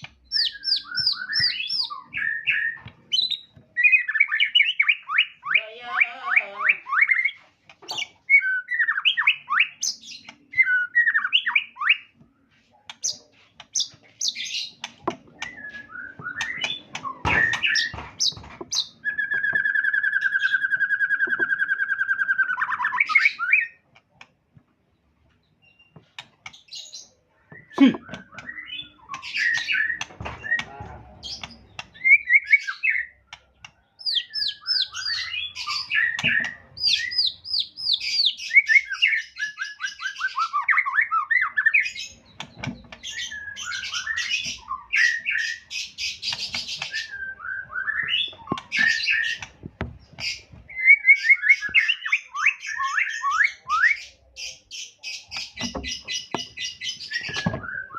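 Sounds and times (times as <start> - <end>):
songbird singing whistles and rattles: 0.0 - 24.2, 25.3 - 57.9.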